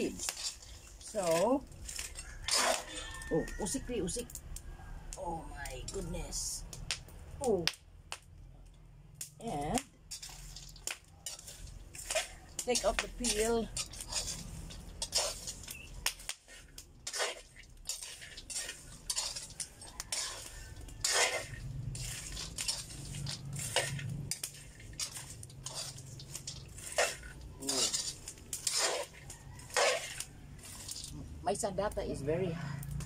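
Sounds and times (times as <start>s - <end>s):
metal spoon scraping a wok: 0.0s - 4.4s, 9.6s - 31.8s.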